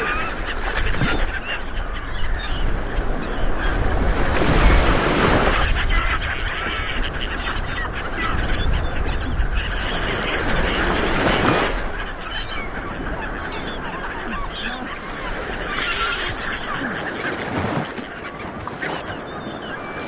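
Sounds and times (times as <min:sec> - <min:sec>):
birds honking cries: 0:00.0 - 0:20.0
ocean surf washing ashore: 0:00.0 - 0:20.0.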